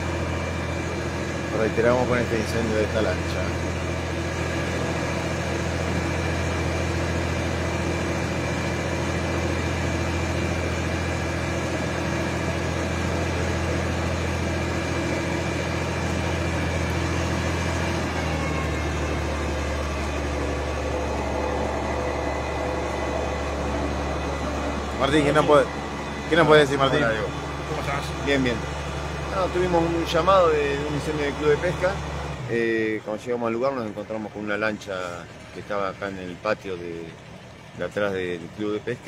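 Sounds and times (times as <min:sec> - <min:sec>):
large engine idling: 0:00.0 - 0:39.0.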